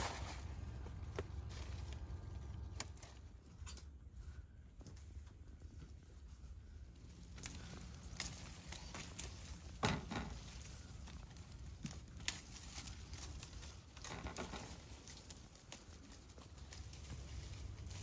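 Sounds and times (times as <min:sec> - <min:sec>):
leaves and twigs rustling: 0:00.0 - 0:18.0
twigs snapping: 0:00.1 - 0:04.0, 0:07.0 - 0:18.0.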